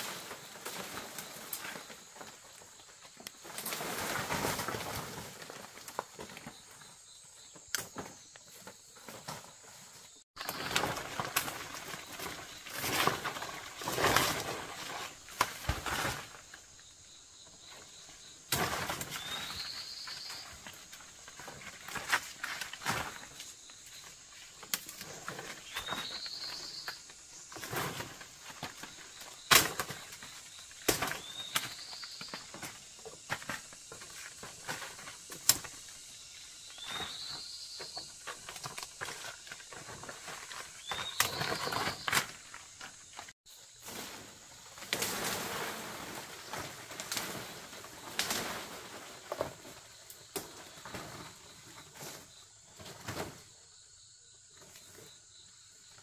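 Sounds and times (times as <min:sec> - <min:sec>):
rustling vegetation: 0:00.0 - 0:53.7.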